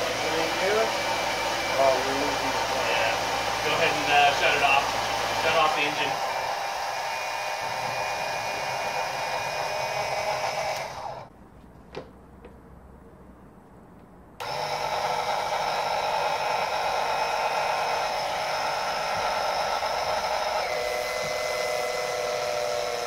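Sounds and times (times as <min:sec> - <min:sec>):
electric fluid pump whining hum: 0:00.0 - 0:11.4, 0:14.4 - 0:23.0.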